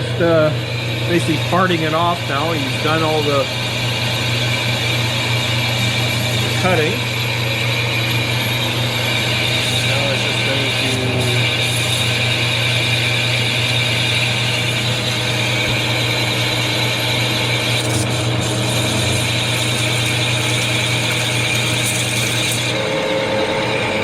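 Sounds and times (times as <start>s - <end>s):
harsh chattering cutting noise: 0.0s - 24.0s
lathe motor hum: 0.0s - 24.0s.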